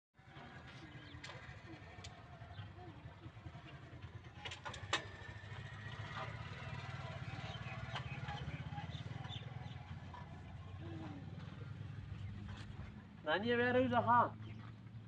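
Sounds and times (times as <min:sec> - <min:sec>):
tractor diesel engine idling: 0:00.2 - 0:14.8.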